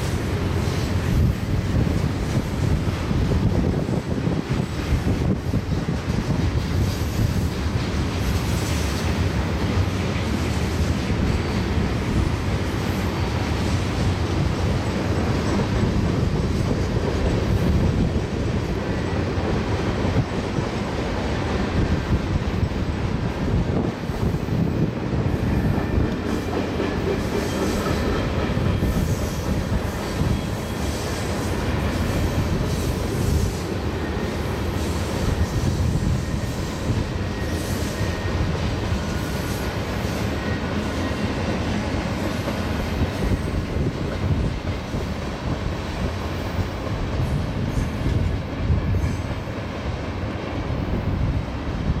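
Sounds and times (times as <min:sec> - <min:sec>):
train wheels clattering on rails: 0:00.0 - 0:52.0.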